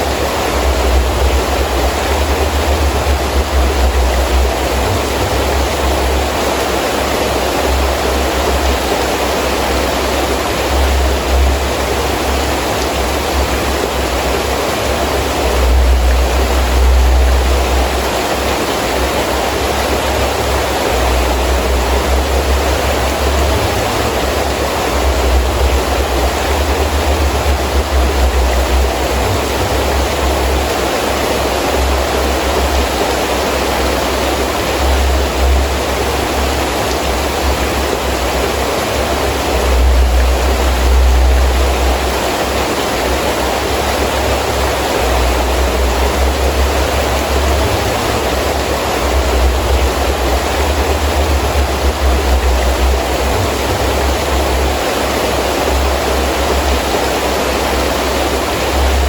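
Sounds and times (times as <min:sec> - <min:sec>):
heavy rain: 0:00.0 - 0:59.0
wind rumble: 0:00.0 - 0:59.0.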